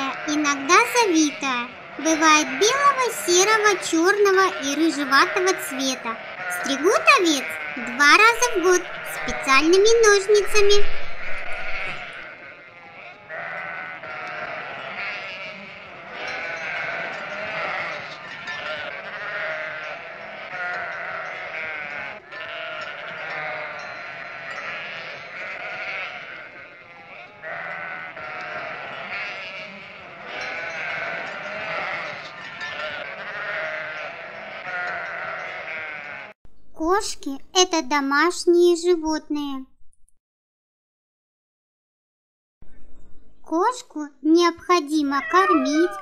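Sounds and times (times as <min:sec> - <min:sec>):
sheep bleating: 0:00.0 - 0:36.4, 0:45.0 - 0:46.0.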